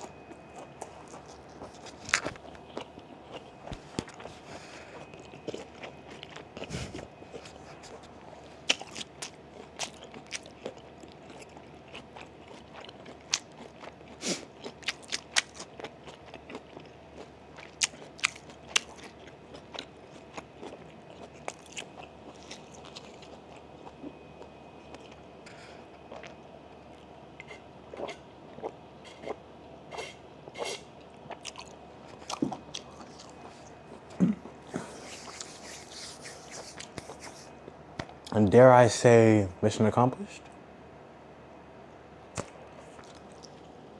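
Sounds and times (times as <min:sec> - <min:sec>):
close chewing crunches: 0:00.0 - 0:37.5, 0:42.4 - 0:43.8.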